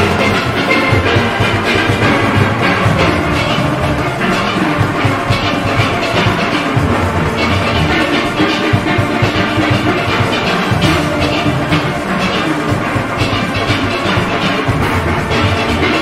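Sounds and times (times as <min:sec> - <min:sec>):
drum and percussion beat: 0:00.0 - 0:16.0
steelpans playing: 0:00.0 - 0:16.0.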